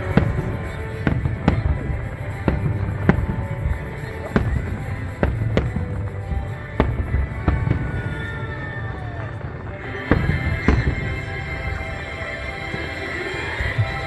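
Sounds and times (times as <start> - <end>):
firework falling whistle: 0.0 - 14.0
fireworks bangs: 0.0 - 14.0
music: 0.0 - 14.0.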